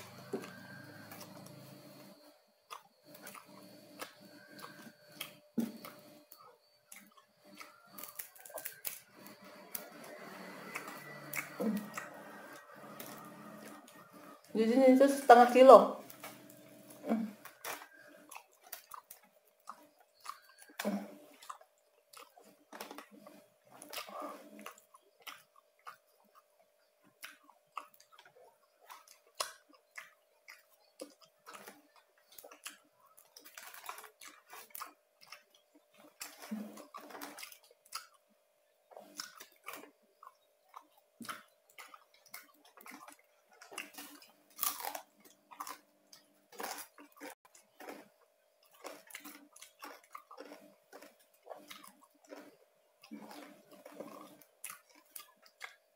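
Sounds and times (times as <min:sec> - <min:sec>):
chewing crunchy food: 0:00.0 - 0:55.9
faint steady hum: 0:00.0 - 0:55.9.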